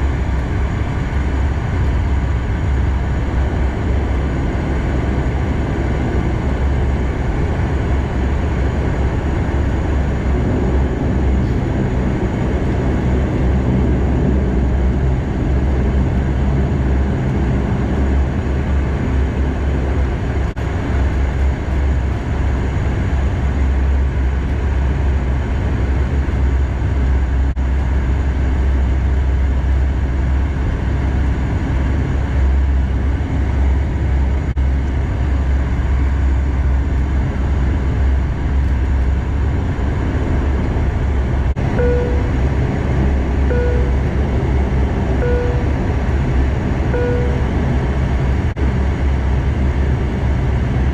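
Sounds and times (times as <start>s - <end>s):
propeller engines droning: 0.0s - 50.9s.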